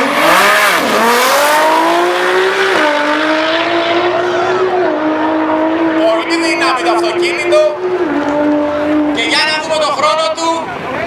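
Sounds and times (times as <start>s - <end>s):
drag car engine at full throttle: 0.0s - 11.0s.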